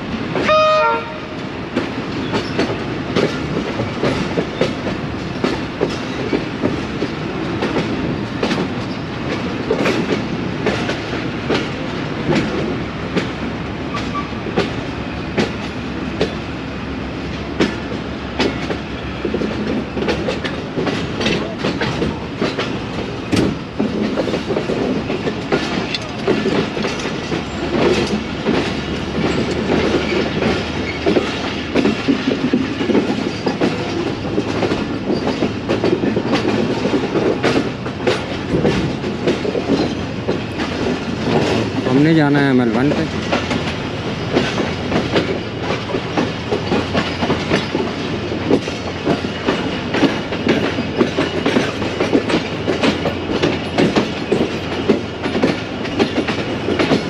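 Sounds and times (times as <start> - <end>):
steady train rumble: 0.0 - 57.0
train wheels clattering over joints: 0.0 - 57.0.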